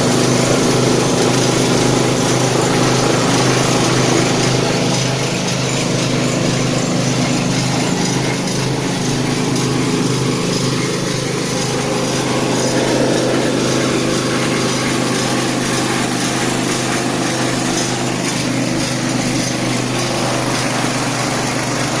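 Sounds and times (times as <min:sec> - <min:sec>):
rice milling machine running: 0:00.0 - 0:22.0.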